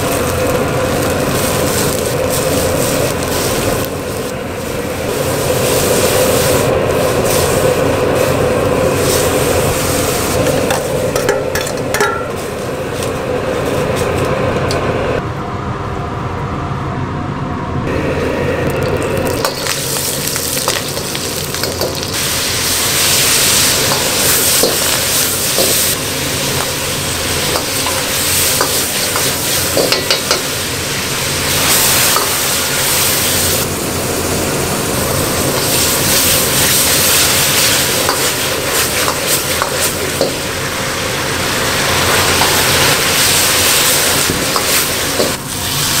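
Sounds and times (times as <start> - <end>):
oil sizzling loudly: 0.0 - 14.8, 17.9 - 46.0
water boiling in wok: 0.0 - 15.2, 18.0 - 46.0
gas burner roar: 0.0 - 46.0.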